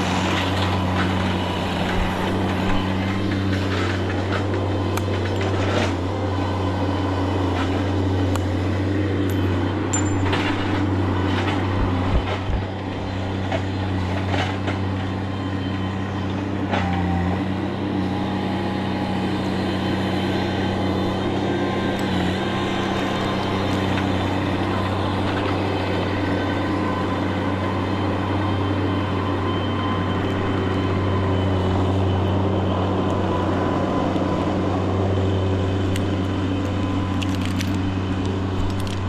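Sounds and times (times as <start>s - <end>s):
large engine running: 0.0s - 39.0s.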